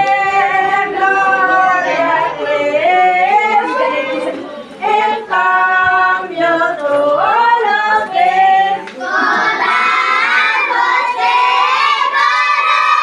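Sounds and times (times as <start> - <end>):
children and women singing: 0.0 - 13.0.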